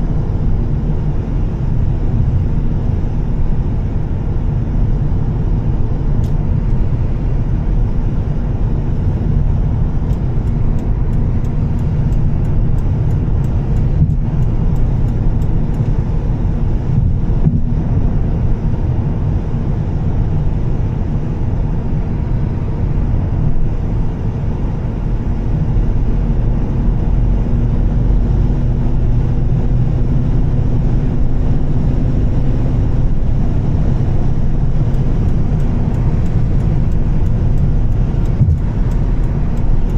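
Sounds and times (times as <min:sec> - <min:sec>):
car engine low drone: 0:00.0 - 0:39.9.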